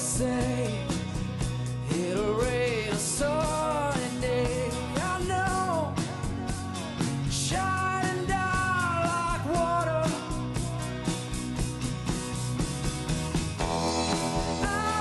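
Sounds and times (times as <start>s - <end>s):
band playing rock song: 0.0s - 15.0s.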